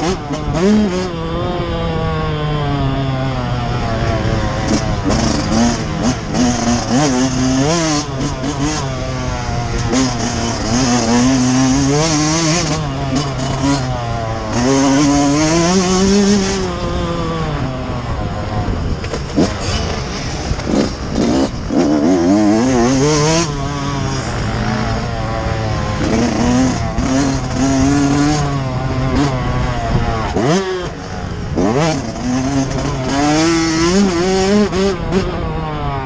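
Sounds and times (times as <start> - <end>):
motorcycle engine revving: 0.0 - 36.0
wind rushing over microphone: 0.0 - 36.0.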